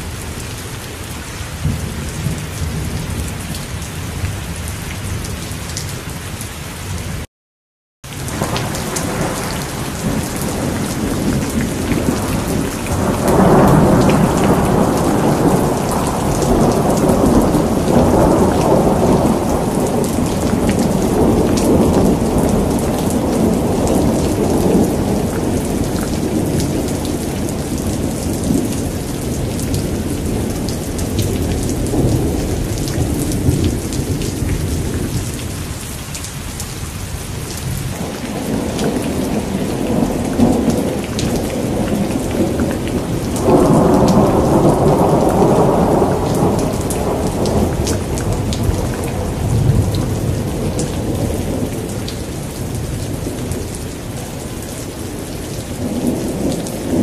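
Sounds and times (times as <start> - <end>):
heavy rain: 0.0 - 7.3, 8.0 - 57.0
thunder rumbling: 8.2 - 35.8, 37.4 - 57.0.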